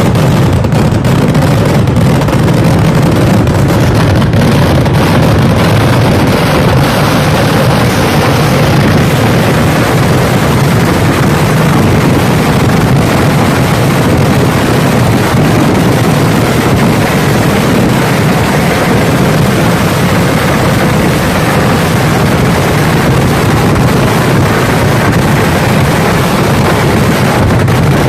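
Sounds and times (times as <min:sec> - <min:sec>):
fireworks barrage: 0:00.0 - 0:28.0.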